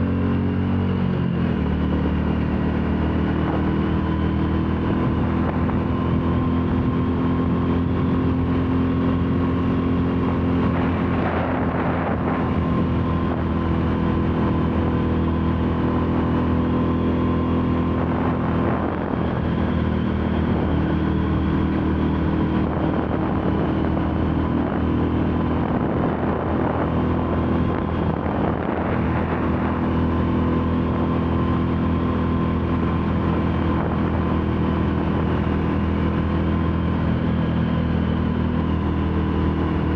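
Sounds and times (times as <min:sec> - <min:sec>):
motorcycle engine cruising: 0:00.0 - 0:39.9
rushing wind noise: 0:00.0 - 0:39.9.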